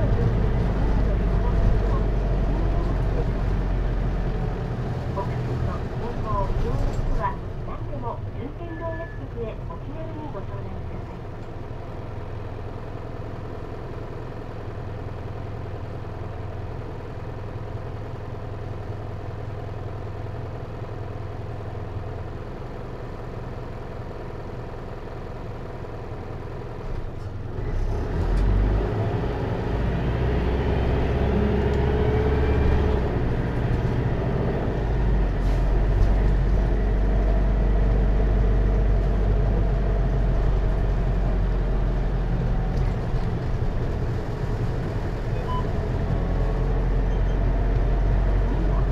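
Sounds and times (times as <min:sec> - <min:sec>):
diesel bus engine accelerating: 0:00.0 - 0:48.9.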